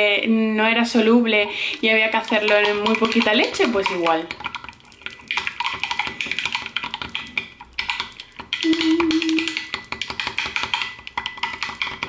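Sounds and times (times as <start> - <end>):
stirrer clinking inside a glass: 1.9 - 12.0.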